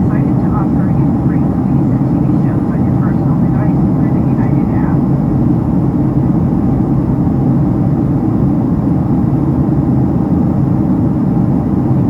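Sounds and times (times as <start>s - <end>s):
faint hum: 0.0s - 12.0s
jet engine cabin rumble: 0.0s - 12.0s.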